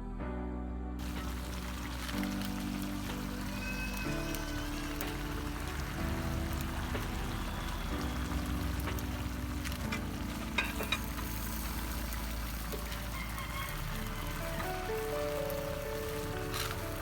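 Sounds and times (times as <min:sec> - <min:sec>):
faint background music: 0:00.0 - 0:17.0
vegetables sizzling in a pan: 0:01.0 - 0:17.0.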